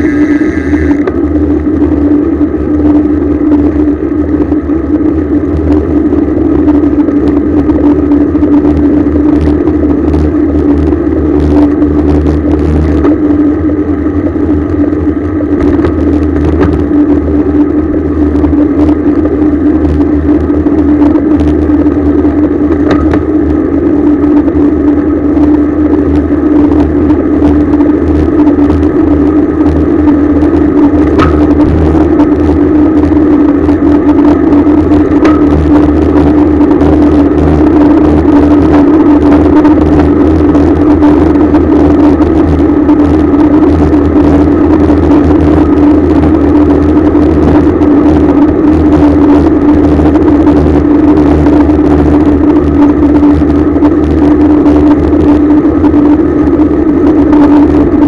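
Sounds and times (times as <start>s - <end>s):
bicycle tyre rumble: 0.0s - 58.0s
wind rush: 0.0s - 58.0s.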